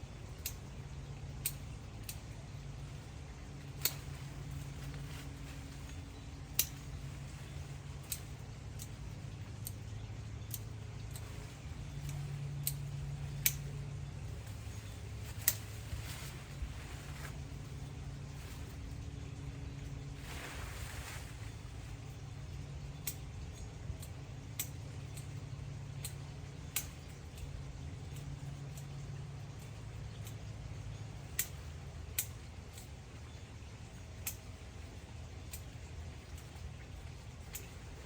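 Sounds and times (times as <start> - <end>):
steady low hum: 0.0 - 38.0
pruning shears snipping: 0.2 - 30.5, 31.2 - 33.1, 35.5 - 38.0.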